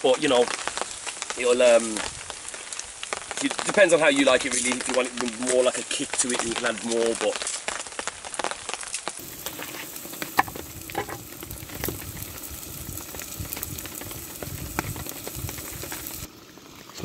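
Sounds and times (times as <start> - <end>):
food sizzling in oil: 0.0 - 6.0, 6.6 - 17.0
crackles and pops: 0.0 - 17.0.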